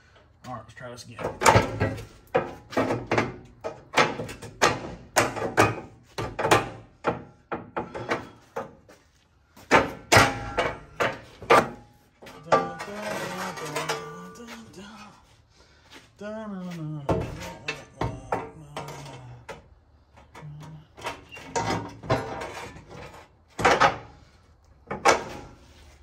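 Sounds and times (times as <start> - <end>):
metal clunks and knocks: 1.1 - 15.0, 17.0 - 26.0.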